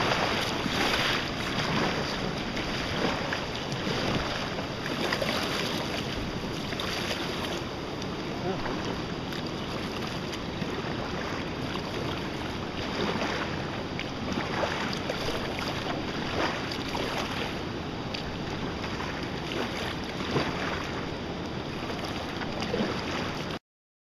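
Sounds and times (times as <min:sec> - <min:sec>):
paddle splashes: 0:00.0 - 0:23.6
water rushing: 0:00.0 - 0:23.6
wind on microphone: 0:00.0 - 0:23.6.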